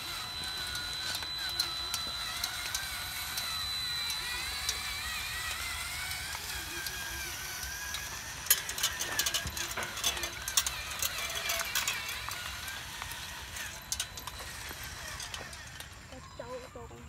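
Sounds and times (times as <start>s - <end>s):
sharp clicking and rattling: 0.0s - 16.8s
small electric motor whining: 0.0s - 17.0s.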